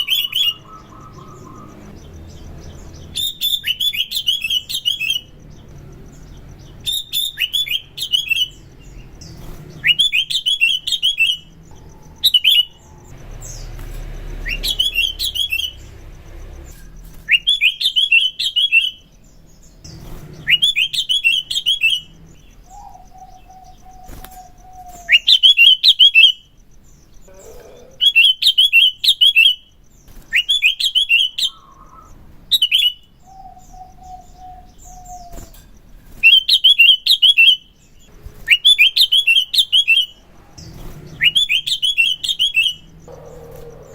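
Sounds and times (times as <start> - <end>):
bird singing bubbly chirps: 0.0 - 27.4, 28.0 - 35.4, 36.2 - 43.9.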